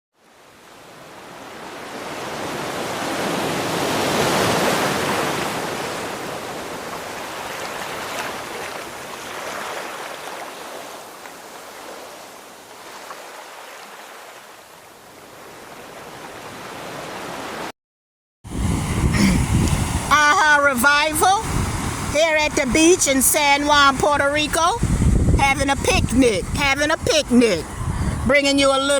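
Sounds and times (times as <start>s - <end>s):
waves breaking on beach: 0.2s - 17.7s, 18.5s - 28.9s.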